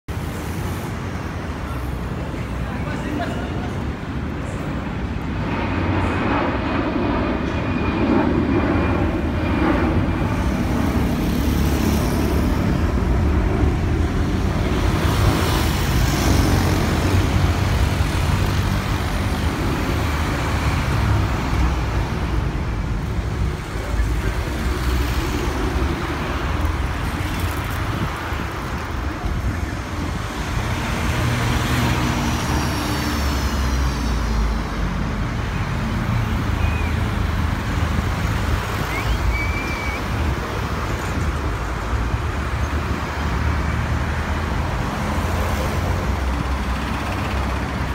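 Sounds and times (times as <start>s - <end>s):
street traffic noise: 0.1s - 47.9s
jet airliner rumble: 0.2s - 47.9s.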